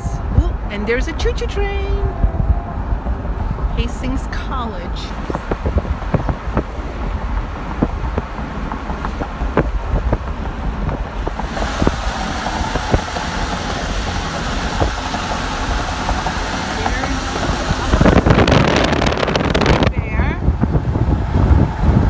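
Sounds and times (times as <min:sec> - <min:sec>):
engine and tyre rumble: 0:00.0 - 0:22.0
wind and road hiss: 0:00.0 - 0:22.0.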